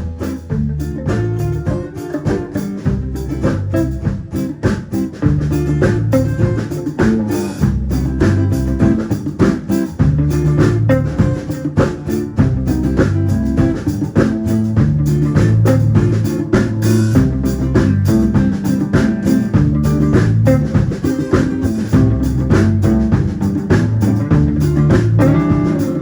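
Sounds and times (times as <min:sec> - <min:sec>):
band playing: 0:00.0 - 0:26.0.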